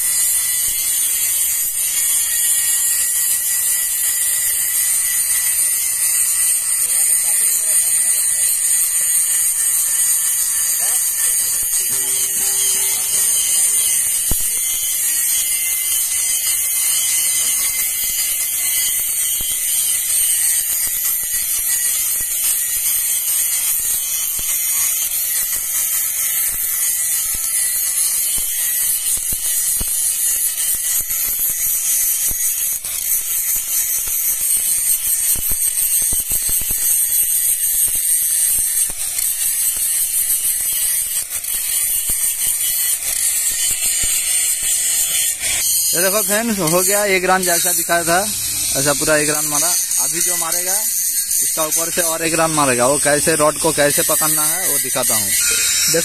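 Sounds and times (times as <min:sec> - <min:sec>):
welding arc crackling hiss: 0:00.0 - 0:56.0.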